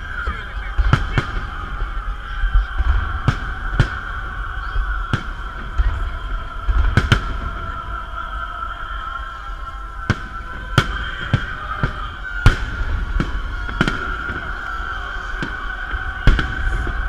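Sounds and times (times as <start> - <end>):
fireworks bangs: 0.0 - 17.0
low rumble: 0.0 - 17.0.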